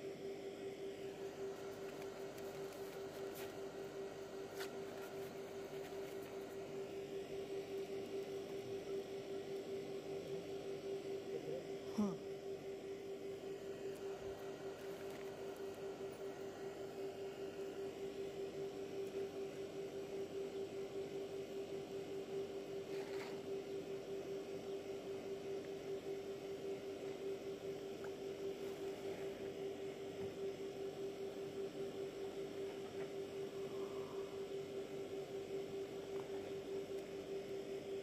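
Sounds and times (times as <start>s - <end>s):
steady pulsing hum: 0.0s - 38.0s.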